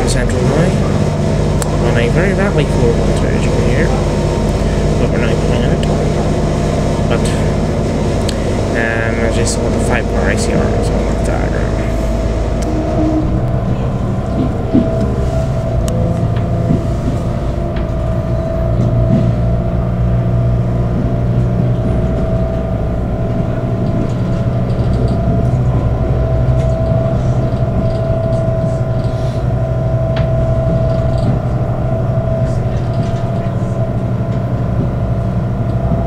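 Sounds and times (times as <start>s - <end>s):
constant whine: 0.0s - 36.0s
train engine drone: 0.0s - 36.0s.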